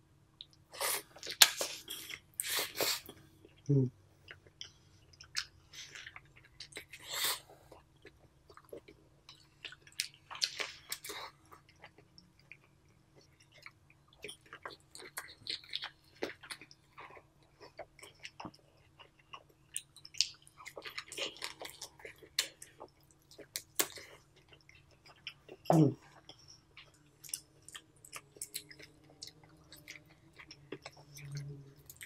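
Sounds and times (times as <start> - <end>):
close-miked chewing: 0.4 - 32.0.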